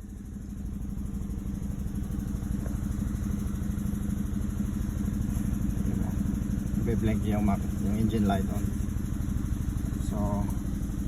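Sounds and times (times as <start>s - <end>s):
misfiring car engine idling: 0.0s - 11.0s.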